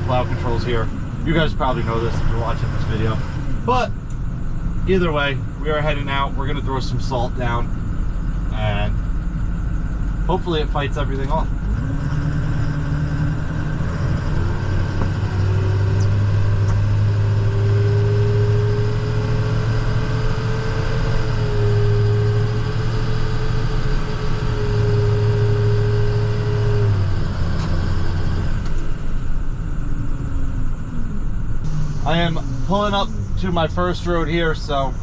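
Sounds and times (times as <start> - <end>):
road noise: 0.0 - 35.0
truck engine droning: 0.0 - 35.0.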